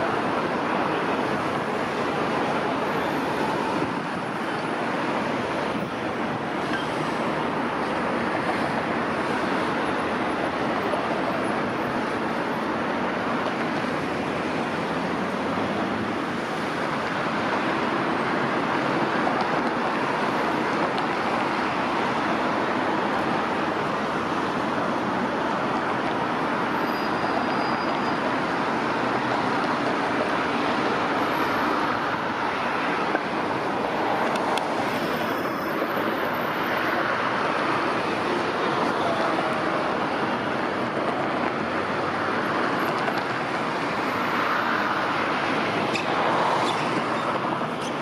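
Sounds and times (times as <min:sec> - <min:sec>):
city street traffic: 0:00.0 - 0:48.0.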